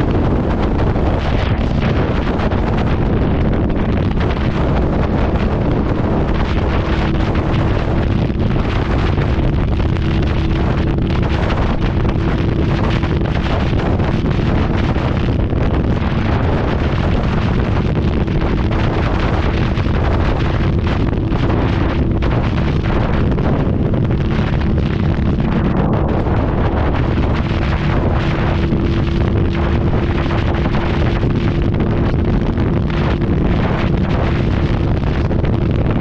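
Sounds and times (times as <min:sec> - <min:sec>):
motorcycle engine droning: 0:00.0 - 0:36.0
wind buffeting microphone: 0:00.0 - 0:36.0.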